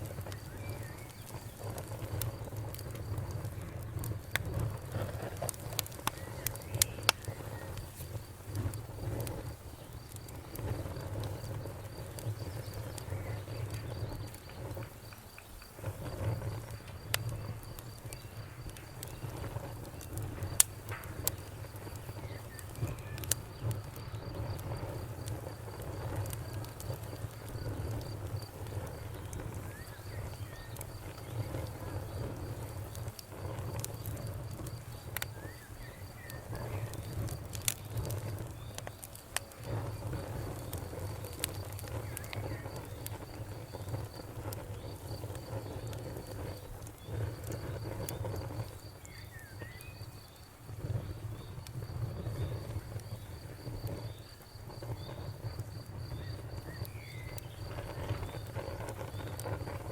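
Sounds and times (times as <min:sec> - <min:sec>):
fire popping and snapping: 0:00.0 - 0:59.9
low rumble of burning: 0:00.0 - 0:59.9.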